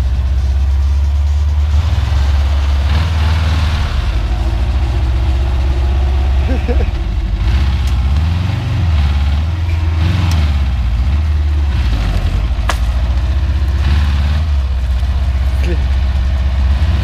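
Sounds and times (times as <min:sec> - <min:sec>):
engine idling and revving: 0:00.0 - 0:17.0.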